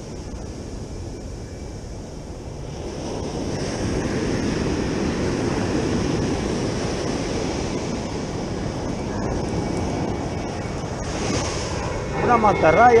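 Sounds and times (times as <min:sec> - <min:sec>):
wind on microphone: 0:00.0 - 0:13.0
ocean surf washing on sand: 0:02.5 - 0:13.0.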